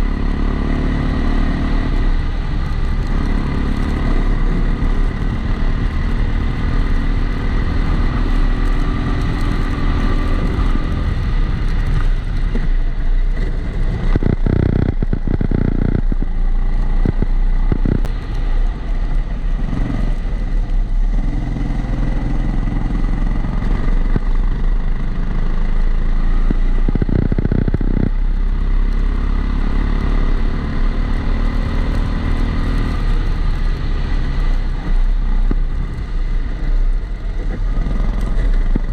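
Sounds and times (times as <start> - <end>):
kart engine: 0.0 - 35.9, 36.5 - 38.9.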